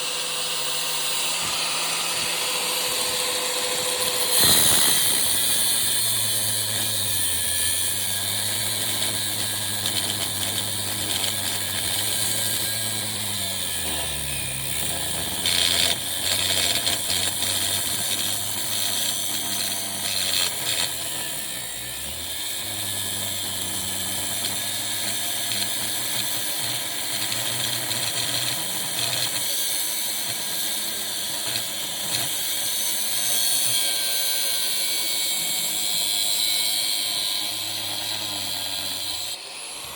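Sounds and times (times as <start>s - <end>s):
angle grinder cutting metal: 0.0s - 39.9s.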